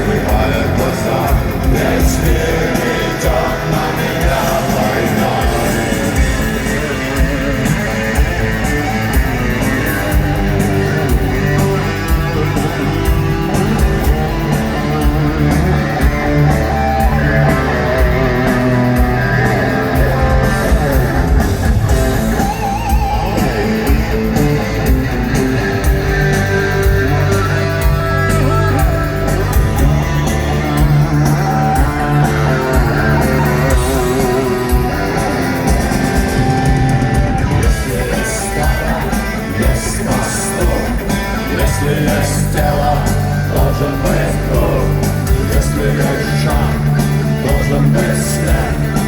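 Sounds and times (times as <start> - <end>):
electric guitar strumming: 0.0 - 49.0
rock band playing instrumental: 0.0 - 49.0.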